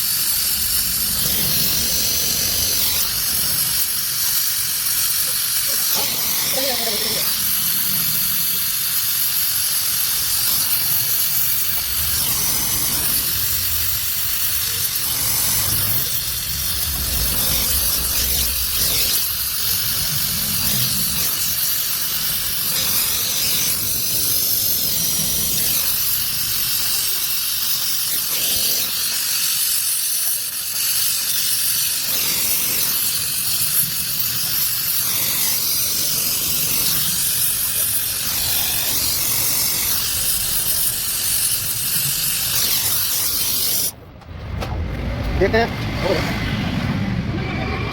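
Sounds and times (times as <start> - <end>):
welding torch flame hissing: 0.0 - 44.0.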